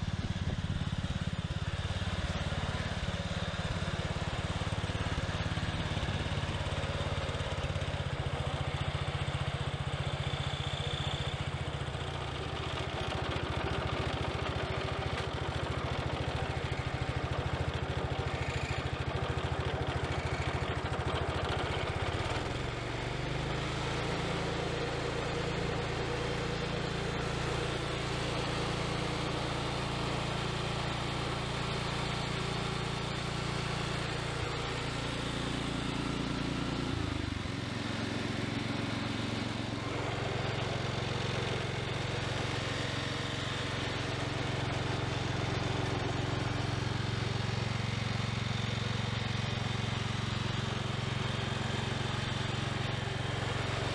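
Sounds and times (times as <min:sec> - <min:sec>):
small tractor engine running: 0:00.0 - 0:53.9.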